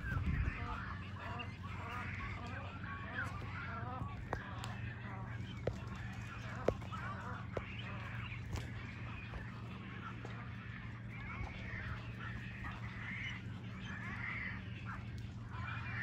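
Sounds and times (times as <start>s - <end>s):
seabirds squawking: 0.0s - 16.0s.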